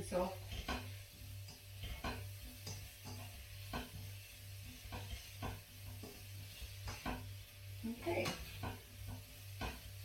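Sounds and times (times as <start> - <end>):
utensil scraping wok: 0.0 - 10.0
vegetables sizzling: 0.0 - 10.0.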